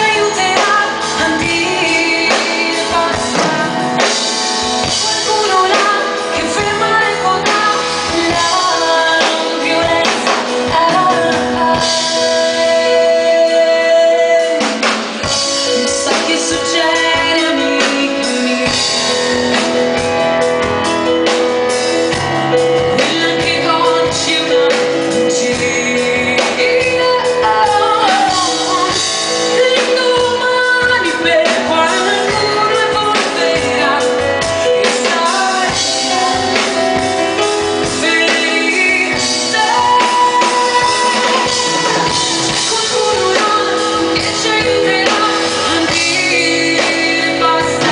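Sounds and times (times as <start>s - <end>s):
pop-rock band playing: 0.0s - 47.9s
woman singing: 0.0s - 47.9s.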